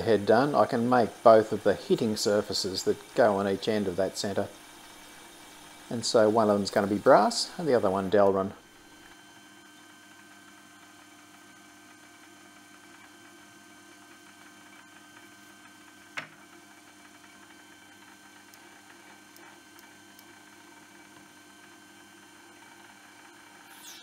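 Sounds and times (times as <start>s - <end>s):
lathe humming and whining: 0.0s - 24.0s.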